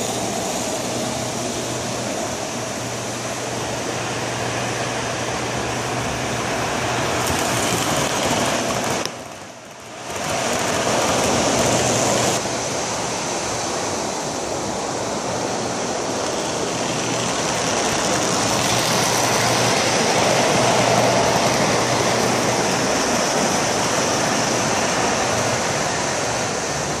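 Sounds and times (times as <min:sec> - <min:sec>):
model train wheels rumbling on rails: 0:00.0 - 0:27.0.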